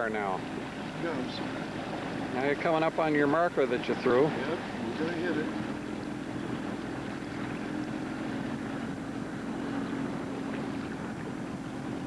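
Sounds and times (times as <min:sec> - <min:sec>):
boat motor droning: 0:00.0 - 0:12.0
water noise: 0:00.0 - 0:12.0
wind: 0:00.0 - 0:12.0.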